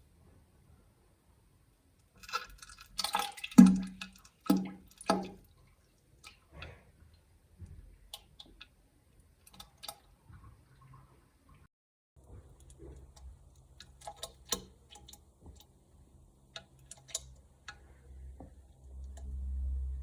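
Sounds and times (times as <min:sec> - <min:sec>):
faint drips and ticks: 0:02.0 - 0:11.6, 0:12.2 - 0:19.9.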